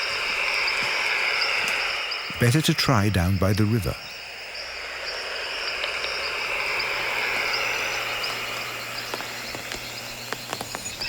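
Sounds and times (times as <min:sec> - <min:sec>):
insects and frogs buzzing: 0:00.0 - 0:11.0.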